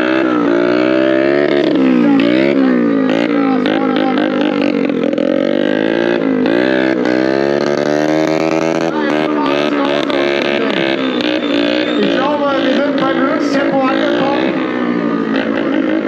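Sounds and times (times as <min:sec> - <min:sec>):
minibike engine revving: 0:00.0 - 0:16.0.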